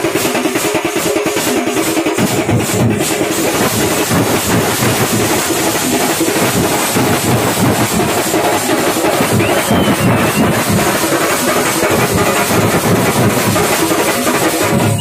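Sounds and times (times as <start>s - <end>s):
drums beaten with sticks: 0.0s - 15.0s
hand cymbals clashing: 0.0s - 15.0s.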